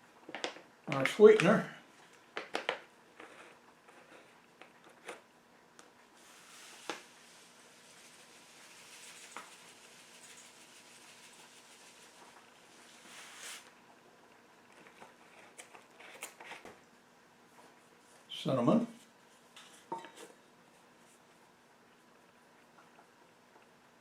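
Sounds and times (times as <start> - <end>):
soft hiss: 0.0 - 24.0.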